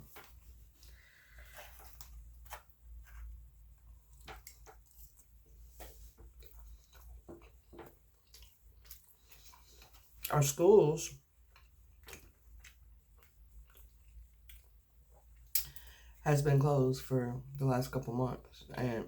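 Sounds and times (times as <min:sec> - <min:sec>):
person chewing food: 0:00.0 - 0:16.2.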